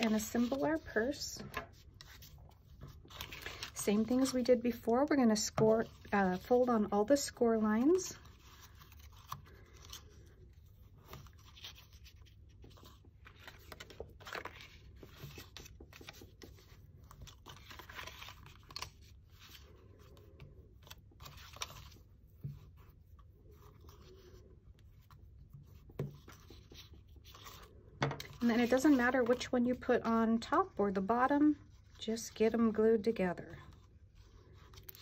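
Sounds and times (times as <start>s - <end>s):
paper crinkling: 0.0s - 4.9s, 7.8s - 31.0s.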